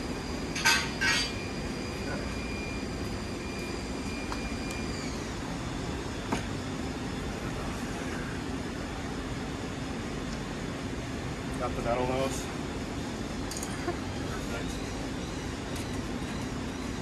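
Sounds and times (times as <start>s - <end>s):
faint high whine: 0.0s - 17.0s
workshop hum: 0.0s - 17.0s.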